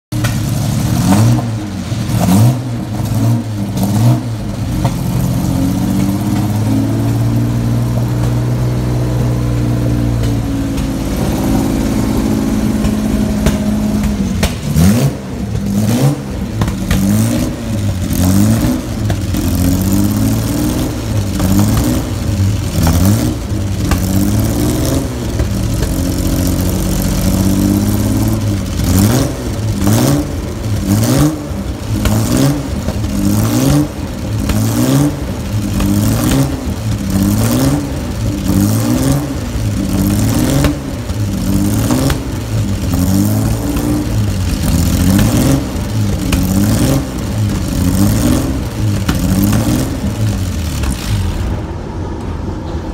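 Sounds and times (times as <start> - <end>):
exhaust crackles: 0.1 - 52.9
race car engine revving: 0.1 - 52.9.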